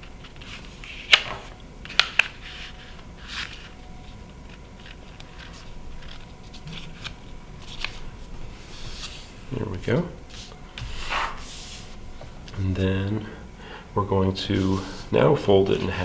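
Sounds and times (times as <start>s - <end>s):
paper being folded and creased: 0.2s - 13.2s, 14.4s - 16.0s
soft paper rustling: 0.2s - 13.4s, 14.1s - 16.0s.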